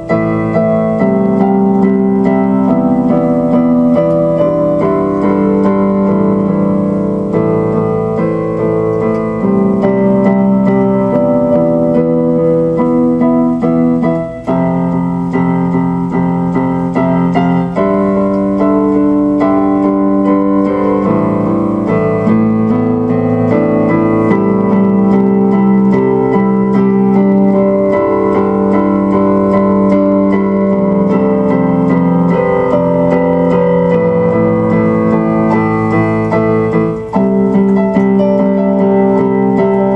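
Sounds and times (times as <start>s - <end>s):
piano chords on keyboard: 0.0s - 39.9s.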